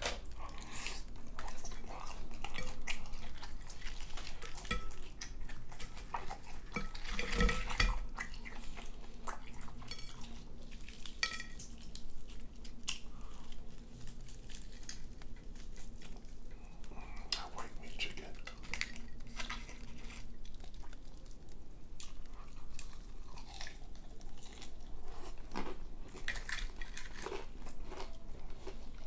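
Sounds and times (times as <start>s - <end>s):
chewing: 0.0s - 29.0s
crispy fried chicken crackling: 0.0s - 29.0s.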